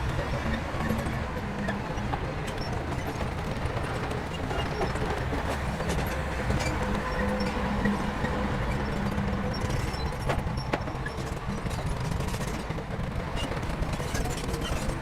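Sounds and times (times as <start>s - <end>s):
heavy machinery rumbling and rattling: 0.3s - 12.8s.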